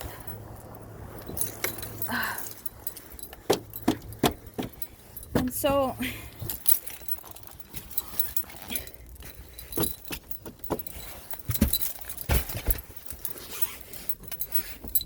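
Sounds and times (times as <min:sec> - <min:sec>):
keys jangling: 0:00.0 - 0:15.0.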